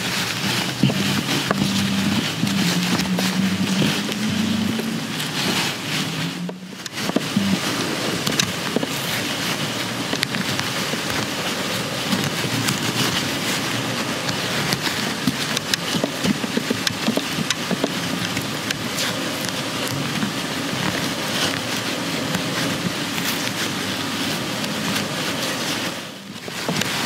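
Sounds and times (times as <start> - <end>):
fabric rustling and crinkling: 0.0 - 27.0
needle ticks and crackles: 0.0 - 27.0.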